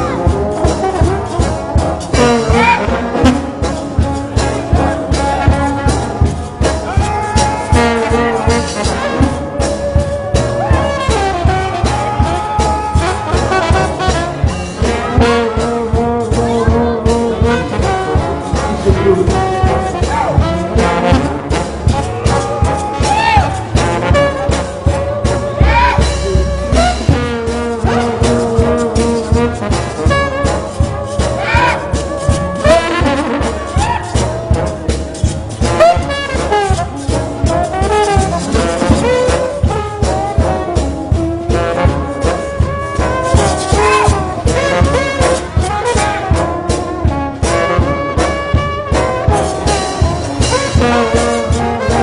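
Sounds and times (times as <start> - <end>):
brass horns holding notes: 0.0 - 52.0
steady drum beat: 0.0 - 52.0.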